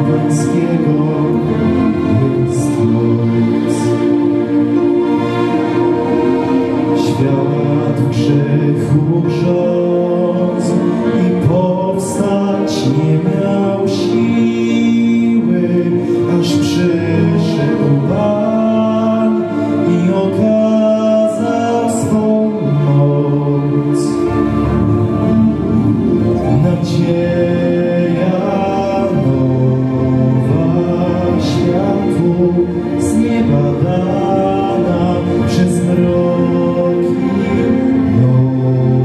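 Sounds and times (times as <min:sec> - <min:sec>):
man singing a carol: 0:00.0 - 0:04.0, 0:07.0 - 0:24.4, 0:26.4 - 0:39.0
music accompaniment: 0:00.0 - 0:39.0.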